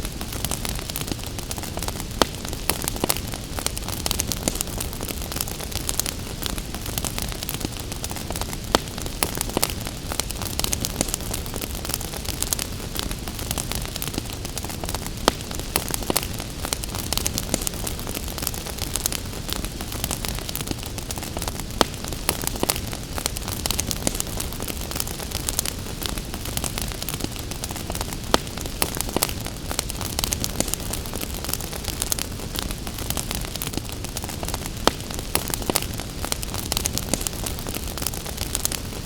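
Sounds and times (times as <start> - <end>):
gentle rain hiss: 0.0 - 39.0
wood fire crackling: 0.0 - 39.0.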